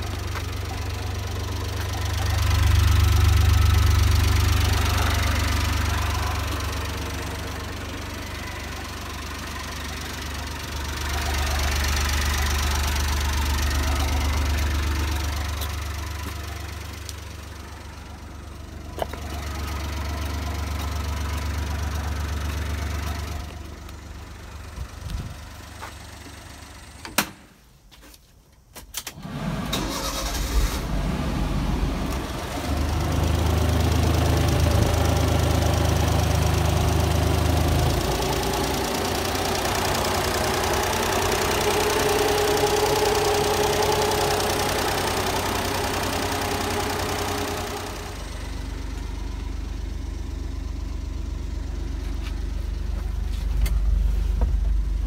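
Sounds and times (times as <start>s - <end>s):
truck engine starting and idling: 0.0s - 27.7s, 28.9s - 55.0s.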